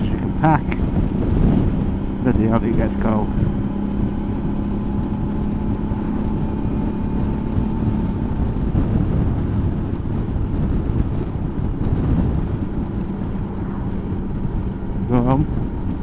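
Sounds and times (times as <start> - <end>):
motorcycle engine drone: 0.0 - 16.0
road rumble: 0.0 - 16.0
wind: 0.0 - 16.0.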